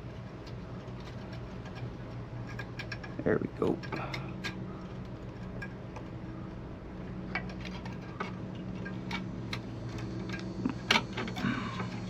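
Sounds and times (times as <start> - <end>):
steady low hum: 0.0 - 12.0
small metal parts clicking: 0.4 - 6.1, 7.3 - 12.0.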